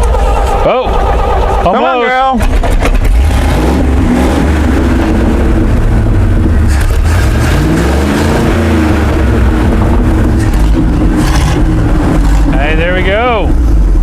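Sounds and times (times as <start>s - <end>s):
truck engine running unevenly: 0.0s - 14.0s.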